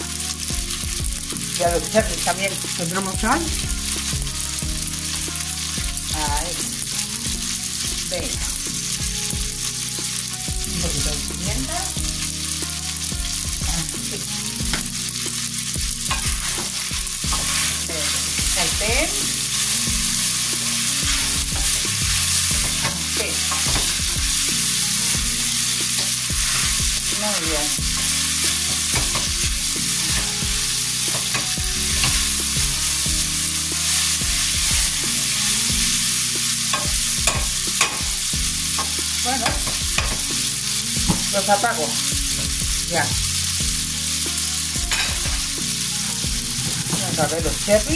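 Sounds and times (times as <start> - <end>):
oil sizzling in frying pans: 0.0 - 47.9.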